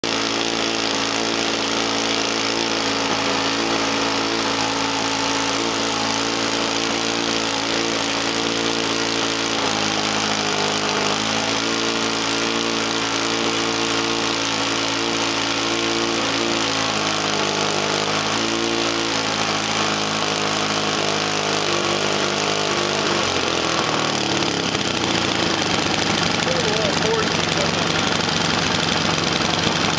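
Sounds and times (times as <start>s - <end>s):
small piston engine droning: 0.0s - 29.9s.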